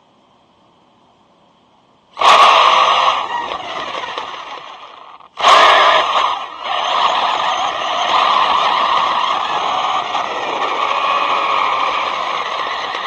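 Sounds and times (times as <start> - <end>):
toy car rushing noise: 2.2 - 13.0.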